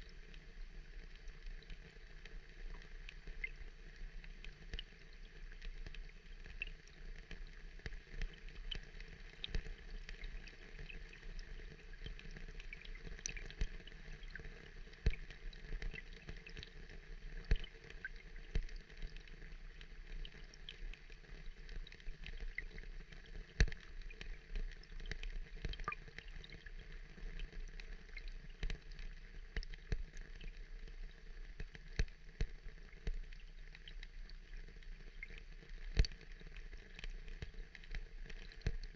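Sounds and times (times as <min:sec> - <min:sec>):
water dripping and trickling: 0:00.0 - 0:38.9.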